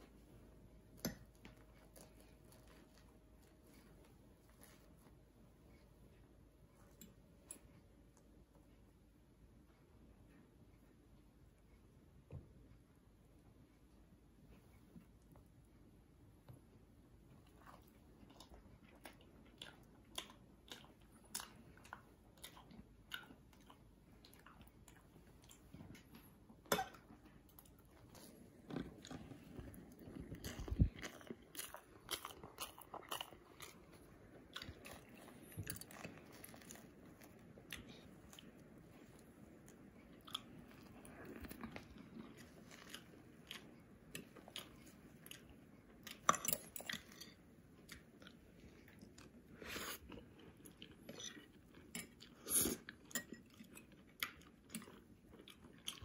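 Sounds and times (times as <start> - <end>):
chewing: 0.0 - 8.6, 17.3 - 56.0.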